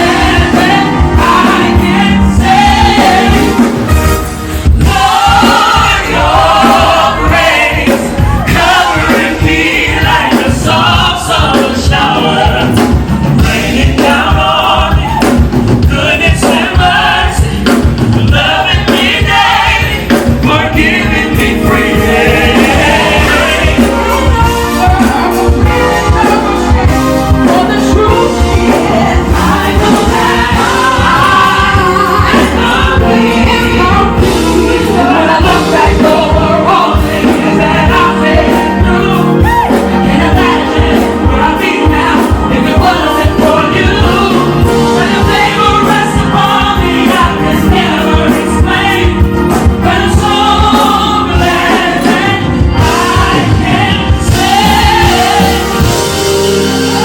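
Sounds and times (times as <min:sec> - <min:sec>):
band with steady beat: 0:00.0 - 0:57.0
choir singing gospel: 0:00.0 - 0:57.0.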